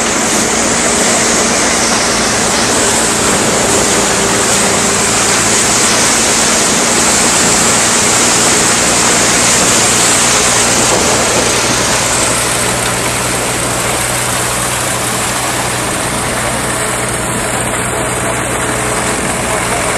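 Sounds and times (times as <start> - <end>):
low drone: 0.0 - 19.9
threshing machine rushing noise: 0.0 - 19.9.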